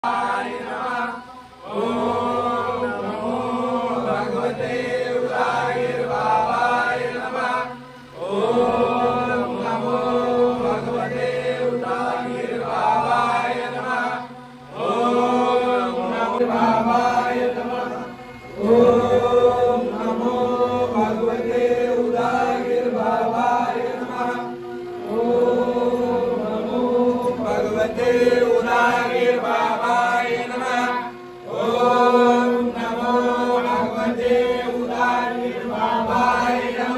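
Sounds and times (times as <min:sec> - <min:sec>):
devotional chanting: 0:00.0 - 0:36.9.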